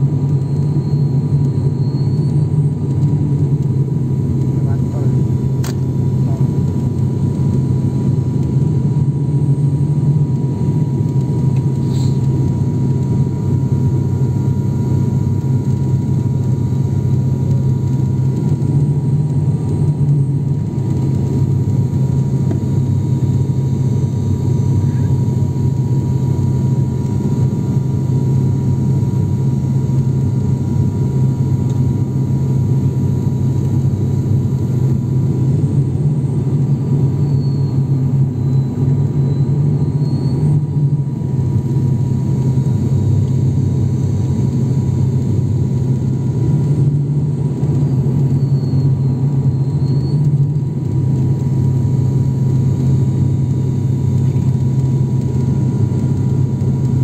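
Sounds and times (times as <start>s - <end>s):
faint steady whine: 0.0s - 57.0s
propeller plane cabin drone: 0.0s - 57.0s.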